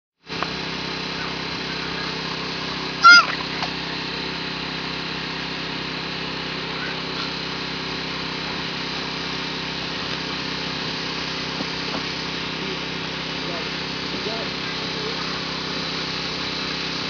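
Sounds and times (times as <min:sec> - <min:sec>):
machine humming: 0:00.3 - 0:17.0.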